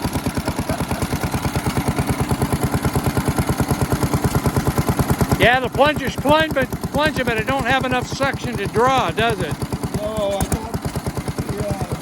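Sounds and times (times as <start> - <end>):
plunger pump stroking: 0.0 - 12.0
small engine running steadily: 0.0 - 12.0.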